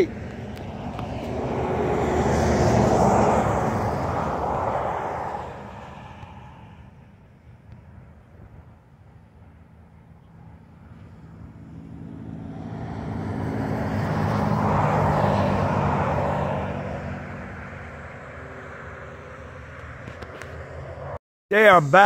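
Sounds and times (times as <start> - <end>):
vehicle passing by: 0.0 - 6.9, 10.4 - 21.2.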